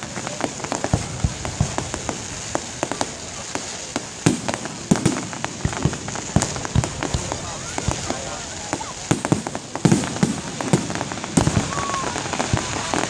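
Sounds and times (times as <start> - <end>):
fireworks bangs: 0.0 - 13.0
fireworks popping and crackling: 0.0 - 13.0
steady hiss: 0.0 - 13.0.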